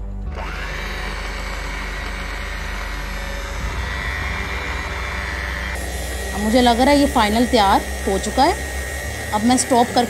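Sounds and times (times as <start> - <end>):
electric hand mixer whining: 0.0 - 10.0.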